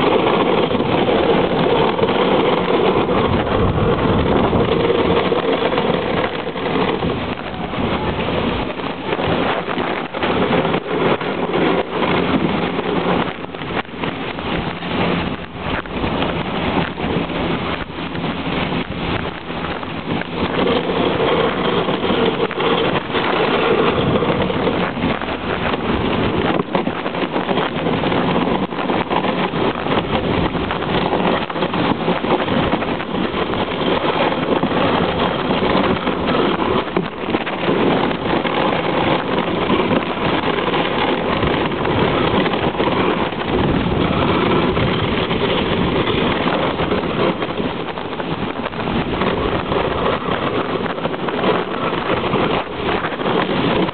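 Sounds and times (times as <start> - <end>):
sled runners scraping over snow: 0.0 - 53.9
wind buffeting microphone: 0.0 - 53.9.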